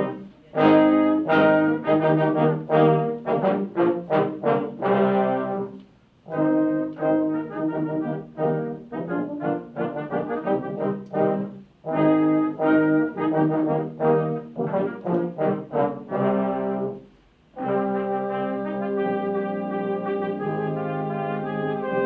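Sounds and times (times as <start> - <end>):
brass ensemble playing short notes: 0.0 - 22.0.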